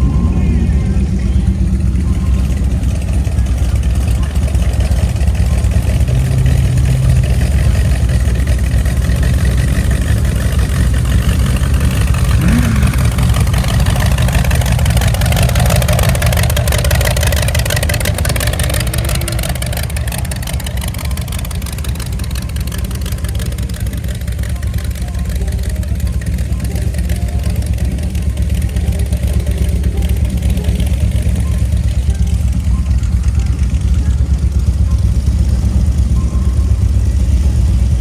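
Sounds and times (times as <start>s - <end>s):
car engine deep rumble: 0.0s - 38.0s.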